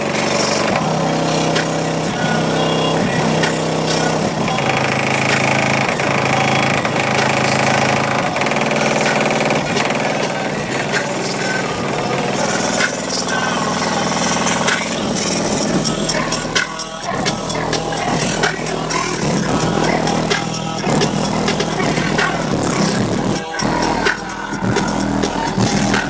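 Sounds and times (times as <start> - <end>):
loud bass-heavy music: 0.0 - 26.0
rattling: 0.0 - 26.0.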